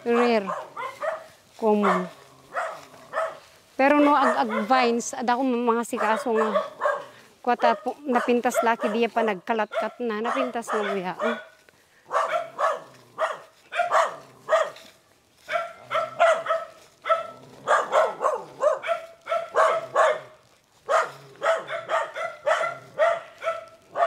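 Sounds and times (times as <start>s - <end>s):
dog barking: 0.0s - 5.1s, 5.8s - 24.0s.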